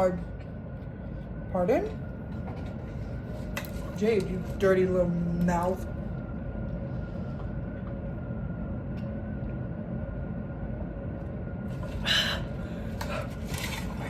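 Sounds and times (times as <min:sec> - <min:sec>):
faint hum: 0:00.0 - 0:14.0
low background rumble: 0:00.0 - 0:14.0.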